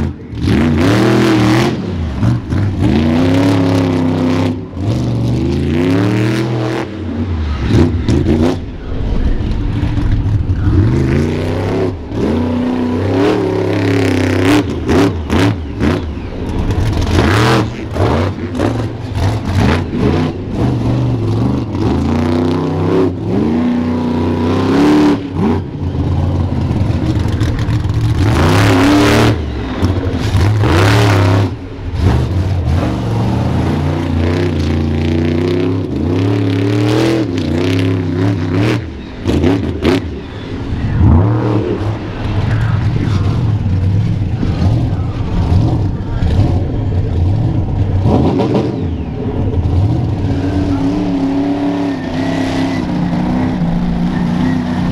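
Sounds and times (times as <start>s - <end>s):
truck engine revving hard: 0.0s - 54.9s.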